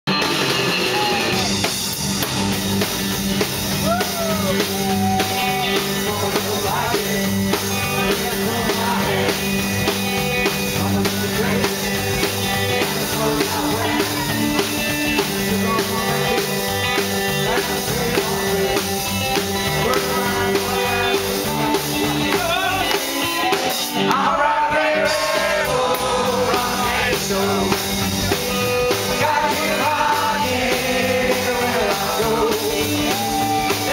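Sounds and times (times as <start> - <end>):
rock and roll band playing: 0.0 - 33.9
voices singing along: 3.8 - 33.9.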